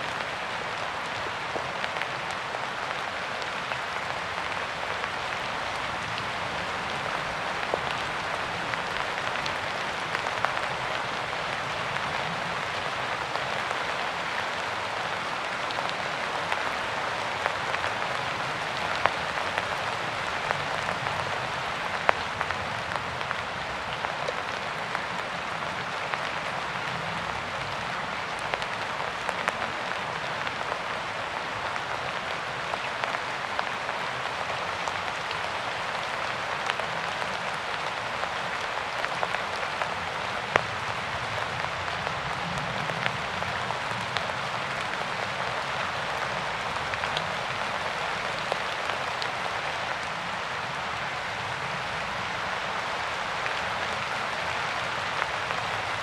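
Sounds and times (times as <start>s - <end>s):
rain drops pattering on surface: 0.0s - 56.0s.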